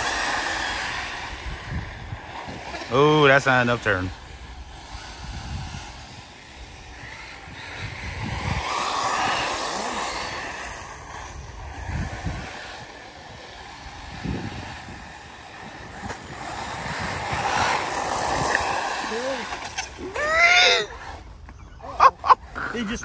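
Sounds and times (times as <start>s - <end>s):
wind on microphone: 0.0s - 20.2s
electric rc cars rushing: 0.0s - 23.0s.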